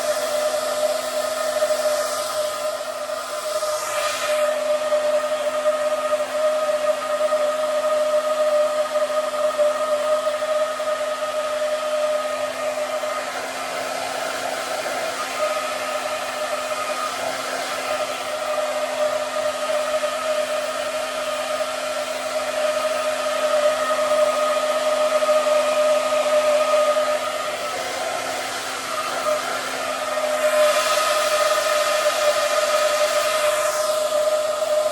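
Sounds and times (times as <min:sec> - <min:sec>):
hair dryer running: 0:00.0 - 0:34.9.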